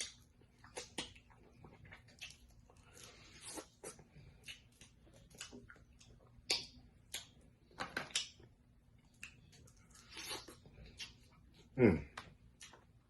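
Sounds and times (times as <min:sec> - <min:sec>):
chewing and cracking crab legs: 0:00.0 - 0:13.0.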